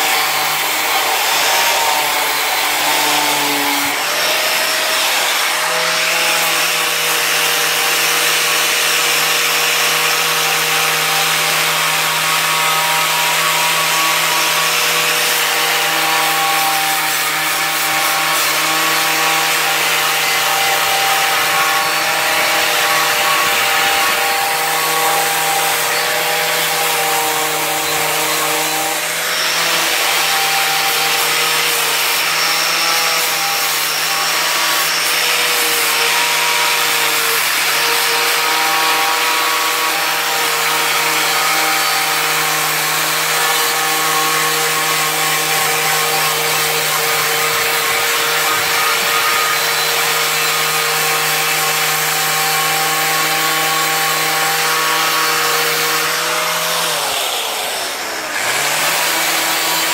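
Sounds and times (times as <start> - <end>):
angle grinder grinding metal: 0.0 - 59.9.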